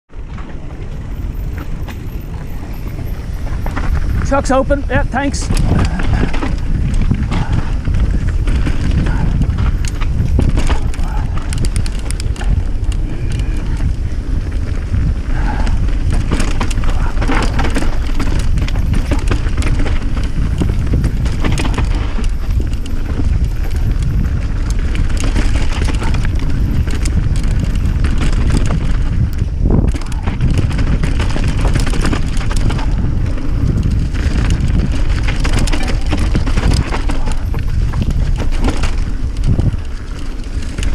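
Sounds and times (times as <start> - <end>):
low rumble: 0.1 - 40.9
clicks and rattles: 1.9 - 14.1, 15.4 - 40.9.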